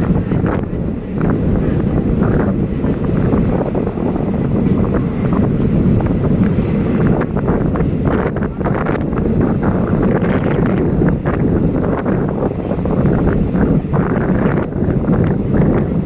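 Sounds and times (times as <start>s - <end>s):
train running rumble: 0.0s - 16.0s
wind buffeting microphone: 0.0s - 16.0s.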